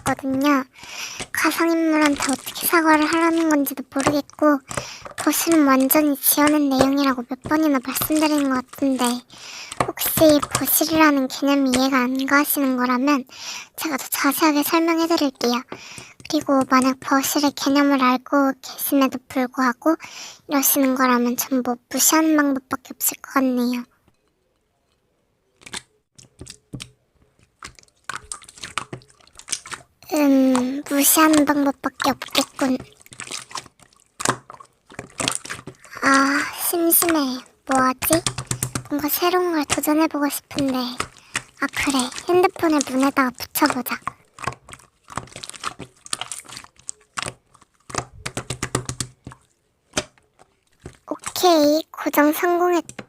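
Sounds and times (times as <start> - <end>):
slime clicking and crackling: 0.0 - 13.2, 13.8 - 18.0, 25.6 - 53.0.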